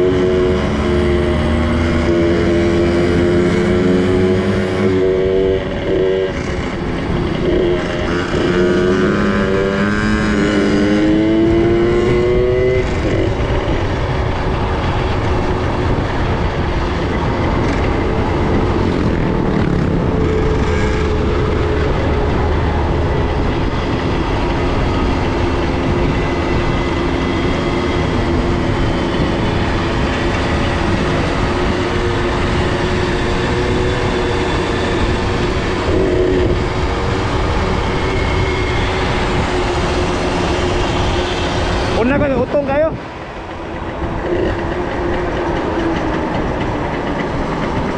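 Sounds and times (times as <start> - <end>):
noisy rush: 0.0 - 47.9.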